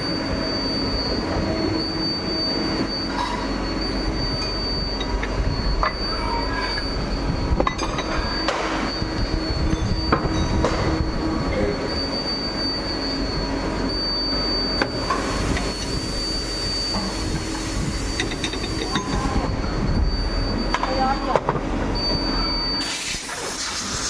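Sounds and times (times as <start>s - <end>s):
cnc machine running: 0.0s - 23.7s
steady high whine: 0.0s - 24.0s.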